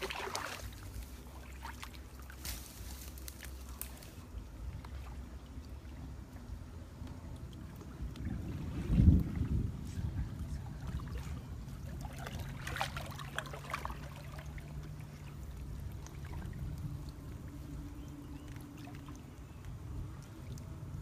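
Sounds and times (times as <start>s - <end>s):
steady low hum: 0.0s - 21.0s
water splashing and trickling: 0.0s - 21.0s.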